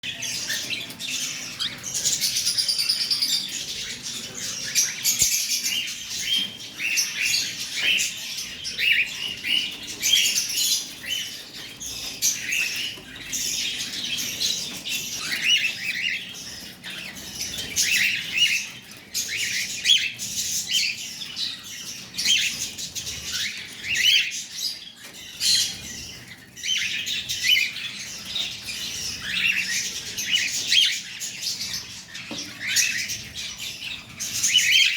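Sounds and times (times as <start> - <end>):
pet birds chirping: 0.0 - 34.9.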